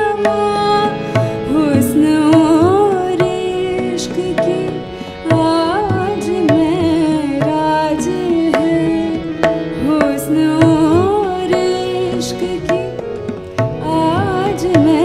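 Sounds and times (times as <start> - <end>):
harmonium chords: 0.0 - 15.0
tabla strokes: 0.0 - 15.0
woman singing: 0.0 - 15.0.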